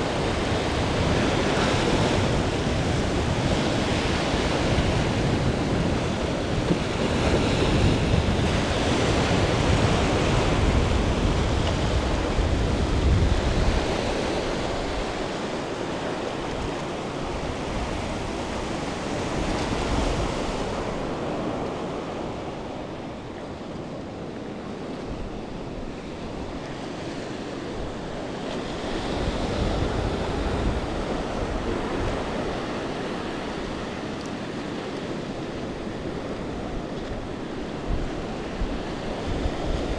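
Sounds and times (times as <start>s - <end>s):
small waves washing over sand: 0.0s - 39.9s
wind rumbling on microphone: 0.0s - 39.9s.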